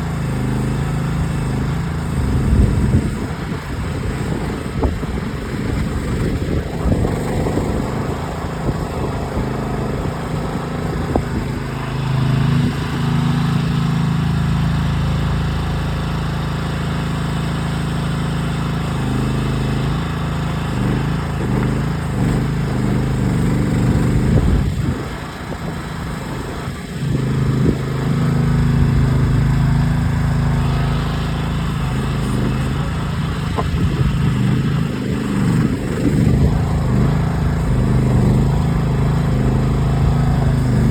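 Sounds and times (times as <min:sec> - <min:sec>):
excavator engine under load: 0:00.0 - 0:40.9.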